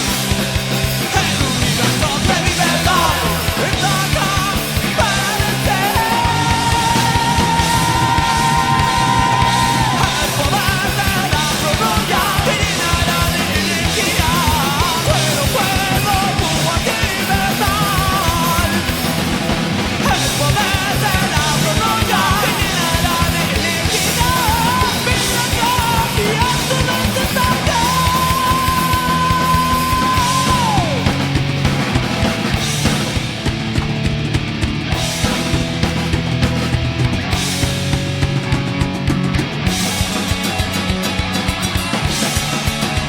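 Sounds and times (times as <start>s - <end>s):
heavy metal song: 0.0s - 43.0s
high lead guitar line: 0.0s - 43.0s.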